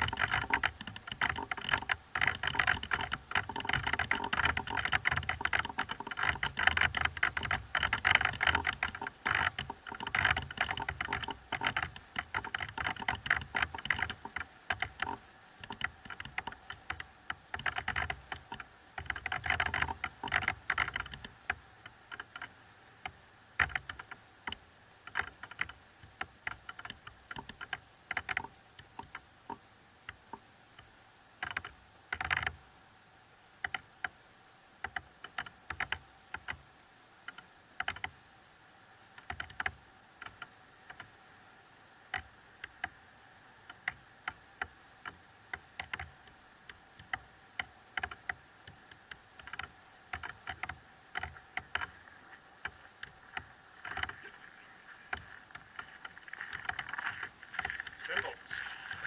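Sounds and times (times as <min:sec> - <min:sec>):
clicking and crackling: 0:00.0 - 0:32.6, 0:37.3 - 0:38.1, 0:43.7 - 0:59.0.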